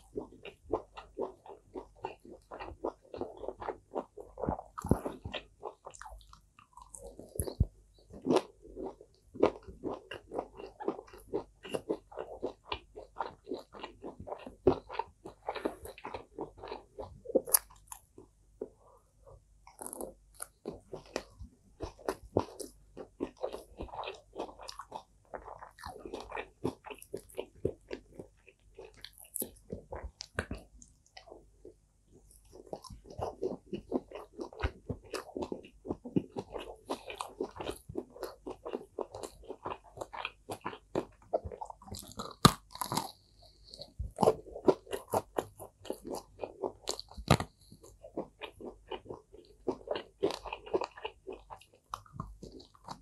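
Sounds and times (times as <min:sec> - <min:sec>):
person chewing crunchy food: 0:00.0 - 0:53.0.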